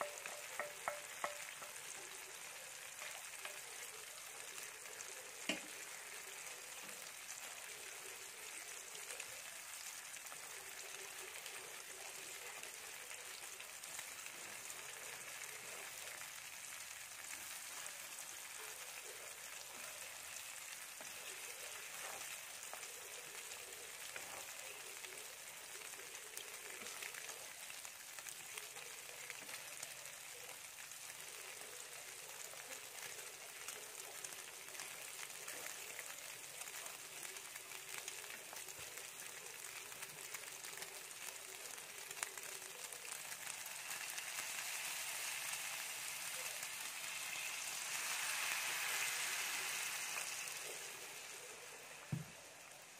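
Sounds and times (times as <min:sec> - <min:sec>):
egg sizzling in oil: 0:00.0 - 0:52.9.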